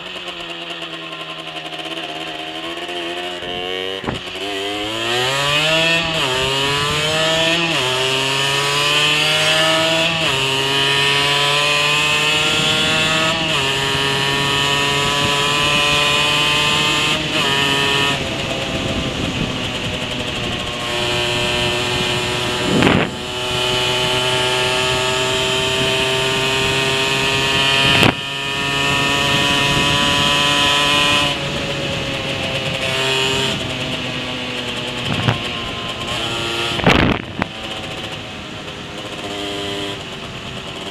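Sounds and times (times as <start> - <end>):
moped engine accelerating: 0.0 - 40.9.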